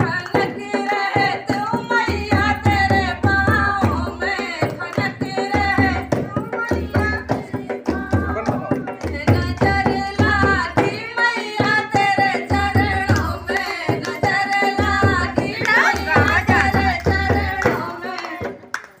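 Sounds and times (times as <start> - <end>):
hand drum beating: 0.0 - 18.8
woman singing devotional song: 0.0 - 18.9.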